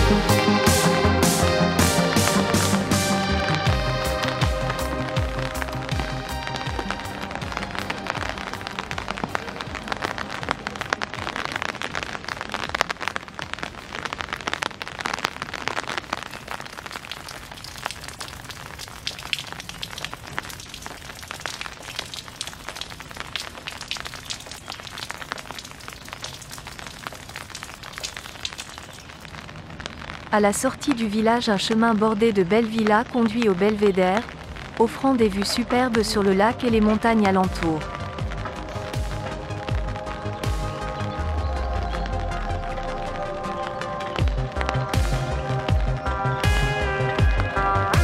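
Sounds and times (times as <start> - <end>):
rain falling on pavement: 0.0 - 48.0.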